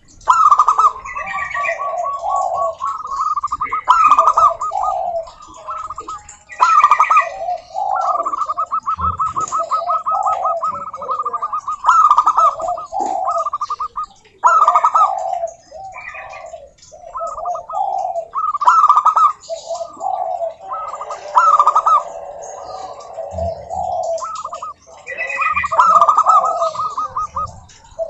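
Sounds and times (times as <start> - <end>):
doves trilled cooing: 0.0 - 28.0
low mellow dove coos: 0.0 - 28.0.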